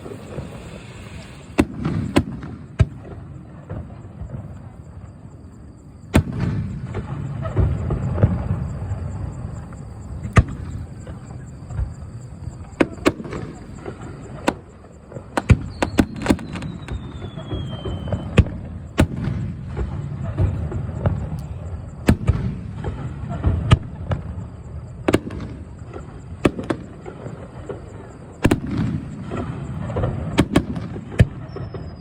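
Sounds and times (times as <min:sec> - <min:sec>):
descending firework whistle: 0:00.0 - 0:32.0
fireworks bangs: 0:00.0 - 0:32.0
run of fireworks cracks: 0:00.0 - 0:32.0.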